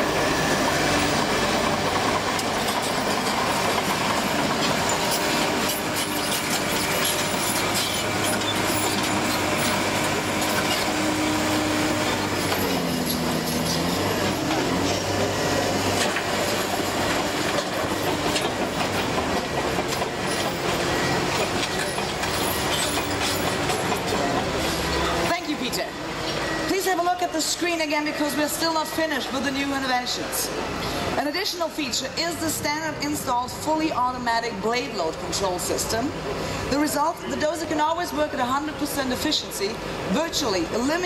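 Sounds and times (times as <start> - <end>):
diesel engine under load: 0.0 - 41.0
steel tracks clanking and squealing: 0.0 - 41.0.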